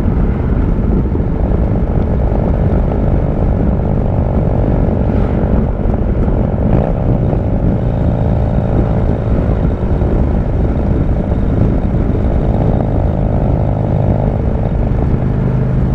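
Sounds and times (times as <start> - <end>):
motorcycle engine cruising: 0.0 - 15.9.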